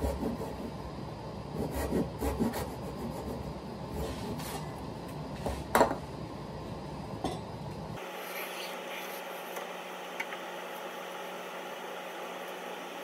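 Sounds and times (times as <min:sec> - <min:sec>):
low workshop hum: 0:00.0 - 0:13.0.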